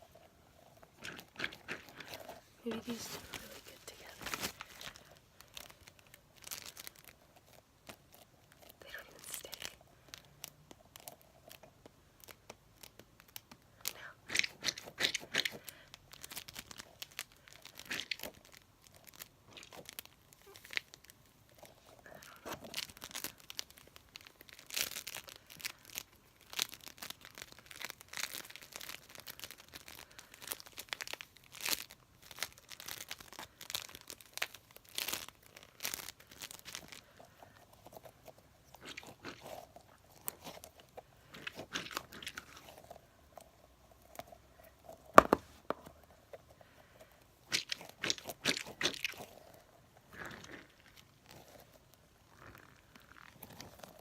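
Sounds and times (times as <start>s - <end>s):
squishy toys crackling and peeling: 0.2s - 54.0s.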